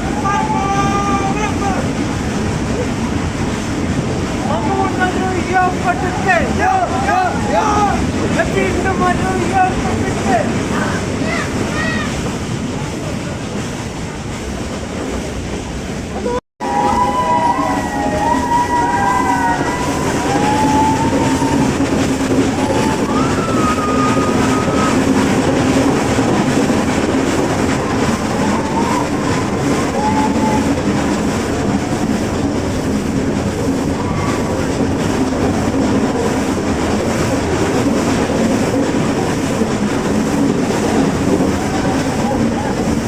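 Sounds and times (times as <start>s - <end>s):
train coaches rumbling on track: 0.0s - 43.0s.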